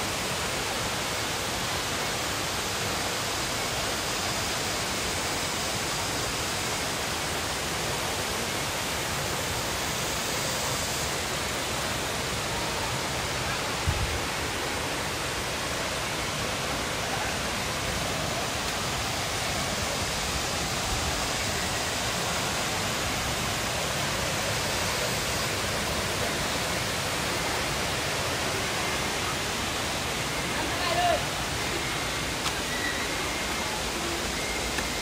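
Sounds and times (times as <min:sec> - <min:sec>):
rocky stream flowing: 0:00.0 - 0:35.0
waterfall rushing: 0:00.0 - 0:35.0.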